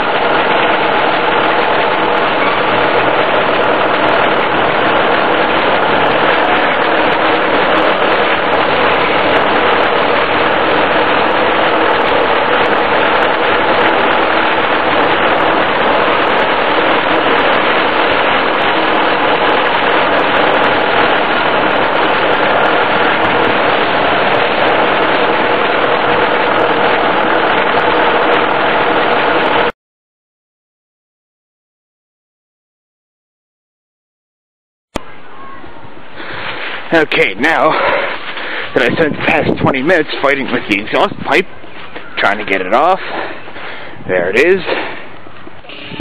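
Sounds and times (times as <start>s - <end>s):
tractor engine running: 0.0s - 29.7s, 35.0s - 46.0s.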